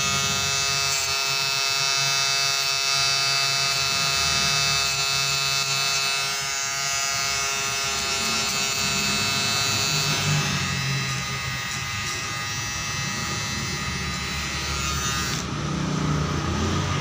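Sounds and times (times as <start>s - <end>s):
electric shaver buzzing: 0.0s - 17.0s.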